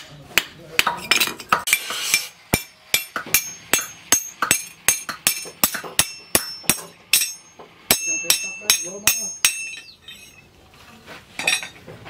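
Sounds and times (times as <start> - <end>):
hammer striking metal on anvil: 0.0 - 10.3.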